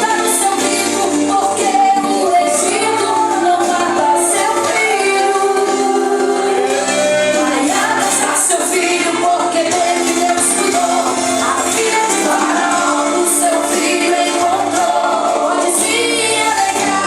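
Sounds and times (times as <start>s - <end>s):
instrumental accompaniment: 0.0s - 17.0s
woman singing worship song: 0.0s - 17.0s.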